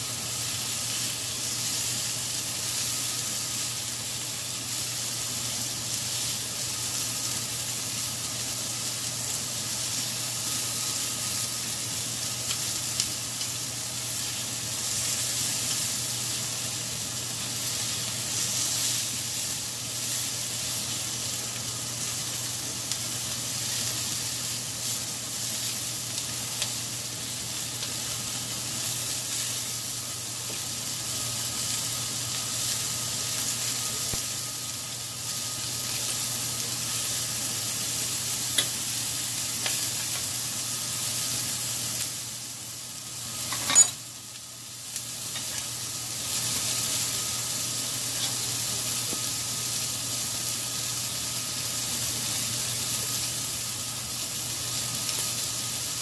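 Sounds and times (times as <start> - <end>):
food sizzling on griddle: 0.0 - 56.0.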